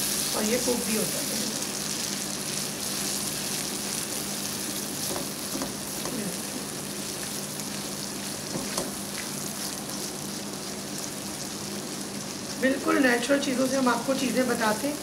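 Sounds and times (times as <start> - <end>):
halwa sizzling in a pan: 0.0 - 15.0.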